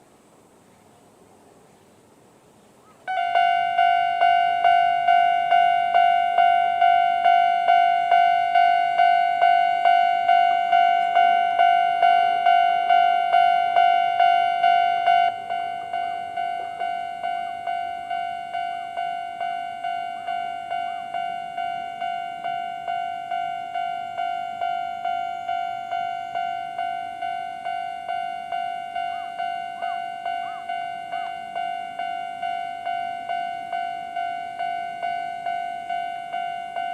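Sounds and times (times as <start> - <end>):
level crossing alarm bell: 3.1 - 36.9.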